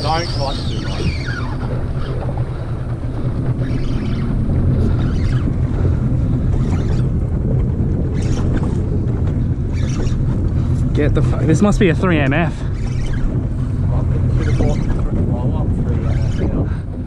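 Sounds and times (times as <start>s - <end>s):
choppy water washing: 0.0s - 17.0s
wind buffeting microphone: 0.0s - 17.0s.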